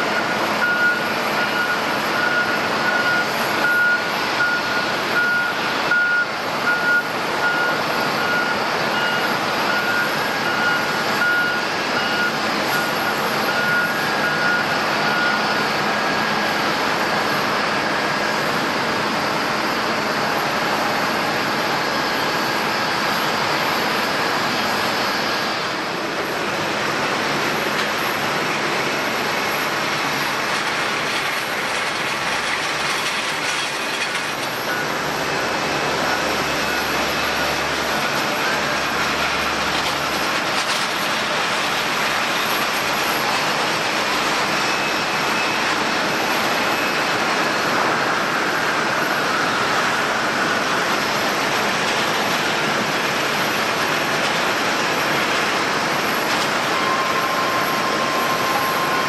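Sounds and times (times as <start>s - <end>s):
jet engine noise: 0.0s - 59.0s.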